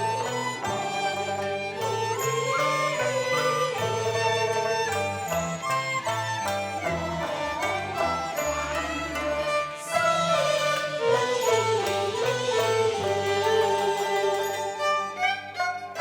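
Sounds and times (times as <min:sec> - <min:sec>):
bowed strings melody: 0:00.0 - 0:16.0.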